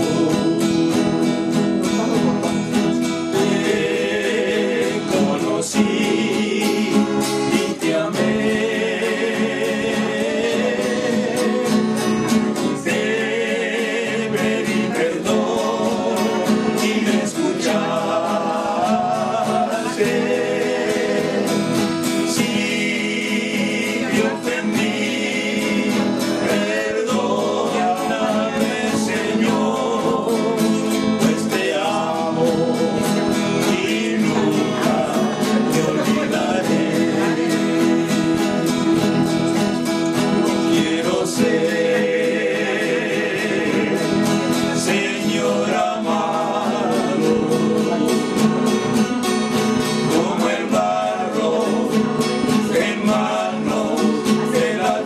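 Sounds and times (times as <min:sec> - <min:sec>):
acoustic guitars strumming: 0:00.0 - 0:55.0
men singing a religious song: 0:00.0 - 0:55.0.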